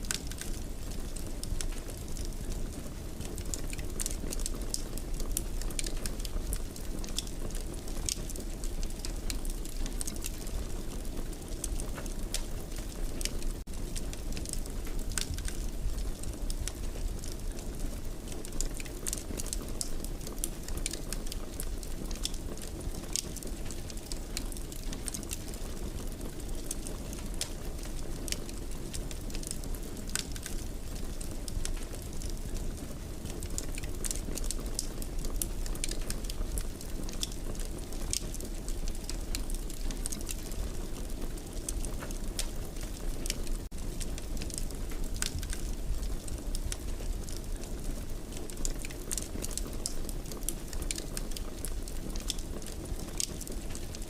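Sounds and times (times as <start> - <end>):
fire crackling and popping: 0.0 - 54.0
fire flames rumbling: 0.0 - 54.0.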